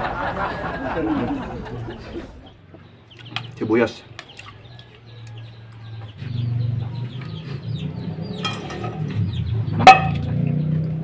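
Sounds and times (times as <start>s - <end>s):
chickens clucking: 0.0s - 10.5s.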